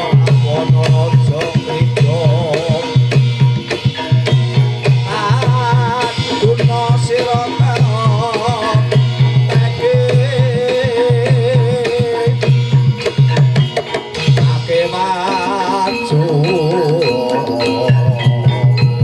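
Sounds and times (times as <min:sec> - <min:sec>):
gamelan music: 0:00.0 - 0:19.0
wavering melody line: 0:00.0 - 0:19.0.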